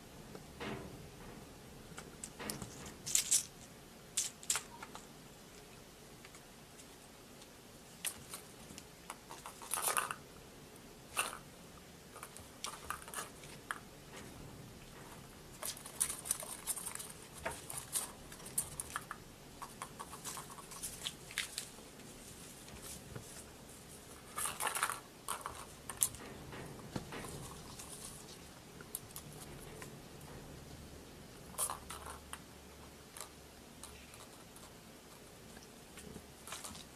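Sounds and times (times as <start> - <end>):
kitten playing with toys: 1.9 - 5.1, 8.0 - 10.3, 11.0 - 30.5, 31.3 - 36.9.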